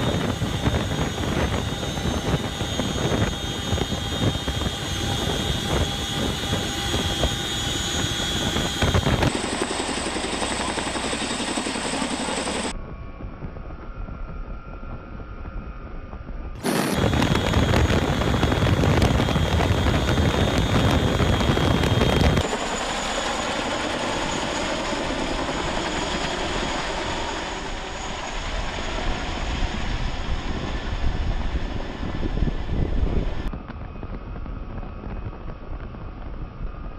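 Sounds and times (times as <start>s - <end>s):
wind rush: 0.0s - 9.4s, 12.4s - 22.6s, 24.0s - 36.9s
helicopter rotor and engine: 0.0s - 36.9s.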